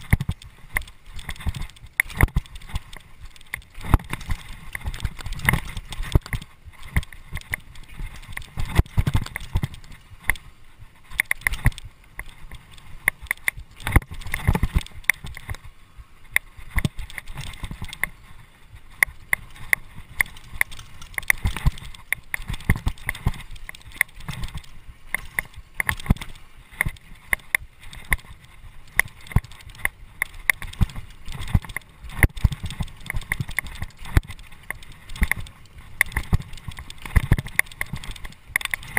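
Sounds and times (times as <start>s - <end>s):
bike chain and frame rattling: 0.0s - 38.9s.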